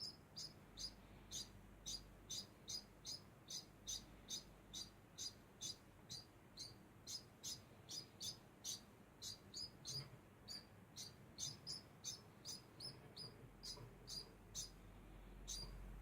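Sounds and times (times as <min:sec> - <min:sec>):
rodent high chirps: 0:00.0 - 0:14.8, 0:15.4 - 0:15.9.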